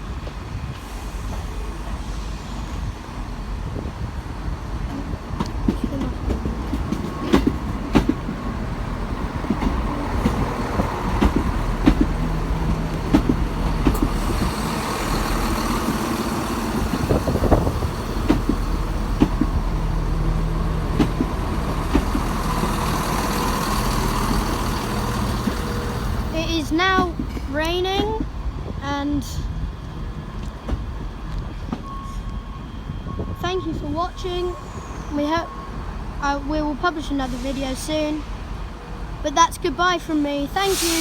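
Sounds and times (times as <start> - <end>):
diesel train engine drone: 0.0 - 41.0.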